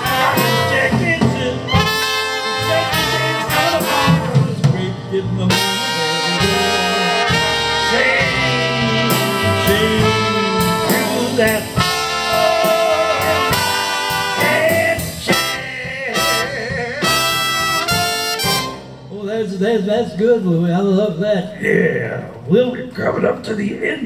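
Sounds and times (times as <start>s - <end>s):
jazz band playing: 0.0s - 19.9s.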